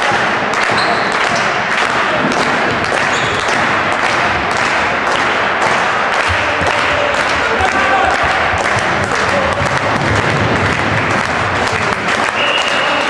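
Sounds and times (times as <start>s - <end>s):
crowd voices: 0.0s - 13.0s
people clapping: 0.0s - 13.0s.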